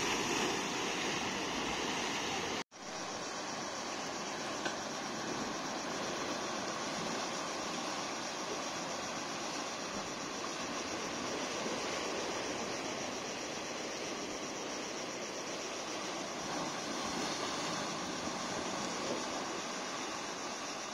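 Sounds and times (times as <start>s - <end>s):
surf washing around boulders: 0.0s - 20.9s.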